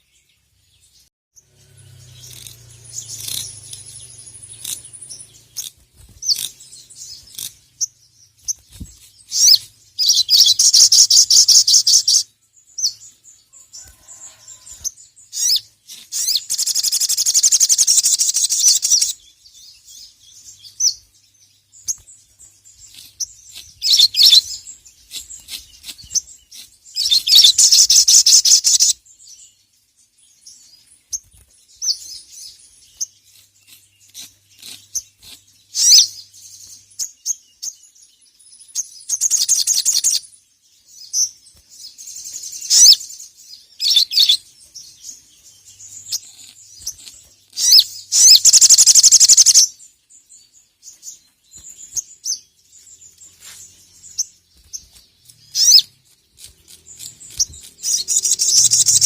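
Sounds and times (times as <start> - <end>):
bird singing rapid chattering trills: 0.0 - 59.0.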